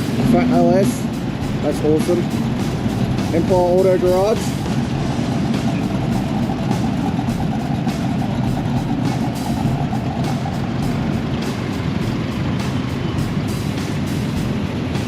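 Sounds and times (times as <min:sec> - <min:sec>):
car engines rumbling: 0:00.0 - 0:15.0
music playing: 0:00.0 - 0:15.0.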